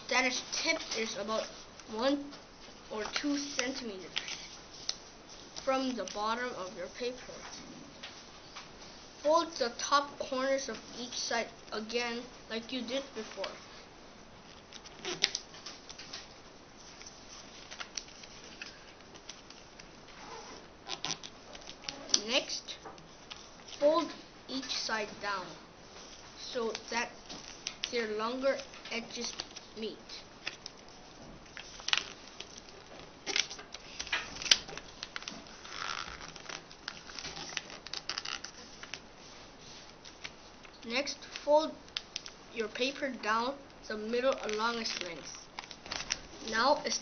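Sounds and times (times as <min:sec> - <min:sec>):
paper rustling while folded: 0:00.1 - 0:09.9, 0:12.8 - 0:43.0, 0:43.9 - 0:47.0.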